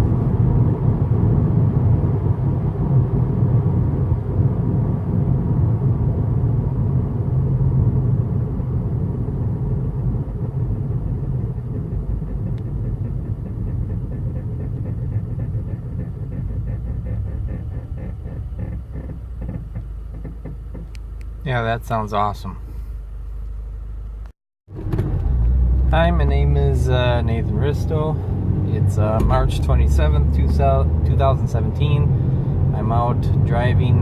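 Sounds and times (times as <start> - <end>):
car driving heard from inside: 0.0 - 34.0.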